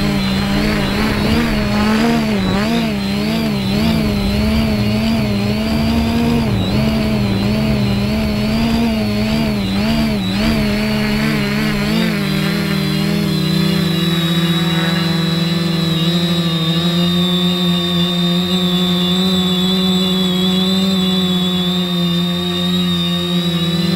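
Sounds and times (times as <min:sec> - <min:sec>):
quadcopter motors whining: 0:00.0 - 0:23.9.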